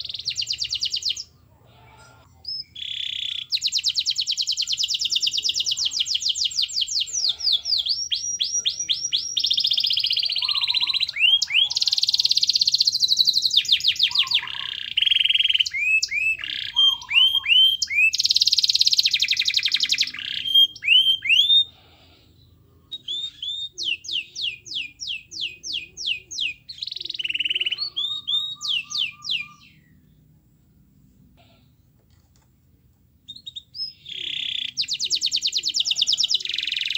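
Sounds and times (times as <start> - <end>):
canary singing trills: 0.0 - 30.3, 33.2 - 36.9.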